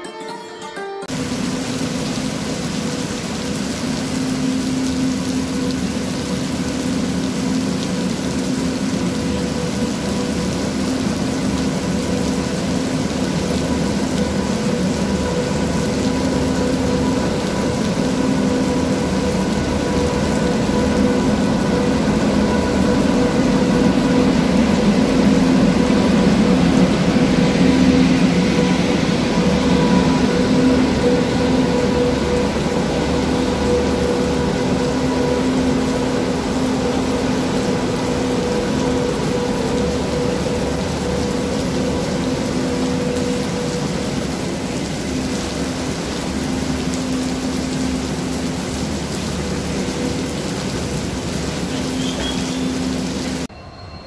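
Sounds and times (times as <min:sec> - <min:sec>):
heavy rain hissing: 0:01.1 - 0:53.5
electric locomotive humming: 0:01.1 - 0:54.0.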